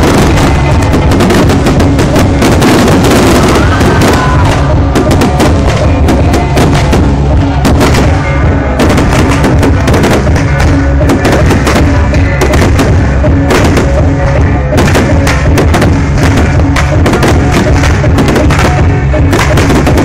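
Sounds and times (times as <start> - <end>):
fireworks bangs and crackles: 0.0 - 20.0
steady low rumble: 0.0 - 20.0.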